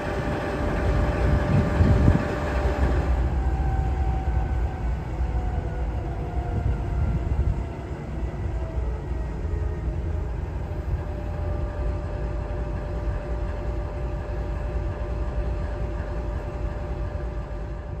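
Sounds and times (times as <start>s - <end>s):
diesel locomotive idling: 0.0s - 18.0s.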